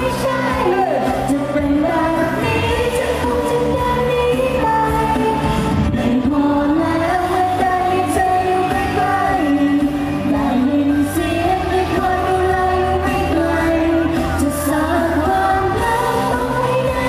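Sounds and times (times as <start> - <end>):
backing music: 0.0 - 17.0
pop song singing: 0.0 - 17.0.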